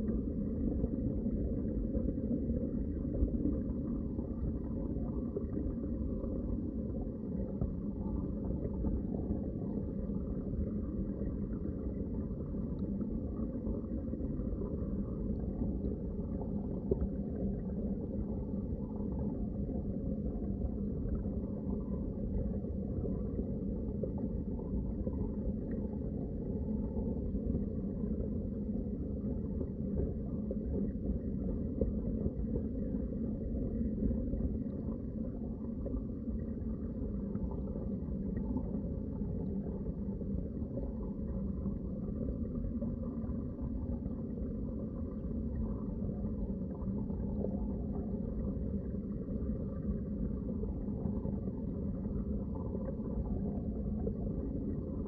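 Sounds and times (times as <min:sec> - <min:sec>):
muffled underwater rumble: 0:00.0 - 0:55.0.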